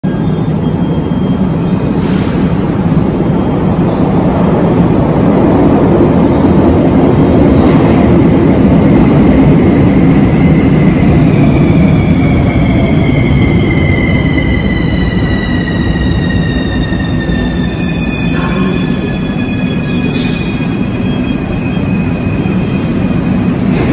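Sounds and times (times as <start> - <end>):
train wheels rumbling: 0.0 - 23.9.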